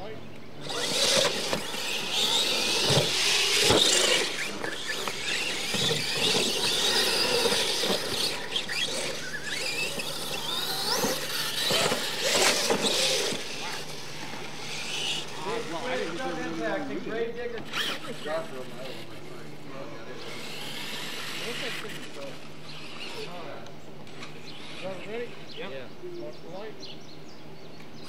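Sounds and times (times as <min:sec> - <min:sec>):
electric motor and gear whine: 0:00.0 - 0:28.0.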